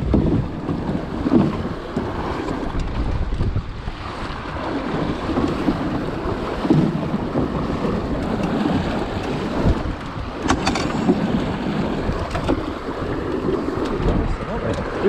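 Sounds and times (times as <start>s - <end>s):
water splashing along boat hull: 0.0s - 15.0s
wind: 0.0s - 15.0s.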